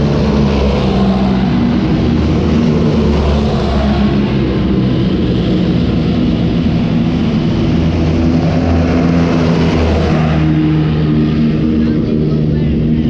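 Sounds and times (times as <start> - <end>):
tank engines rumbling: 0.0 - 13.0.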